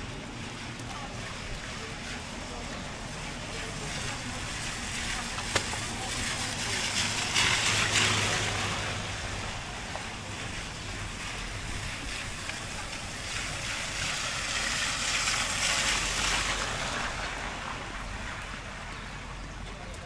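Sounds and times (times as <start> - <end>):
rain hissing: 0.0 - 19.6.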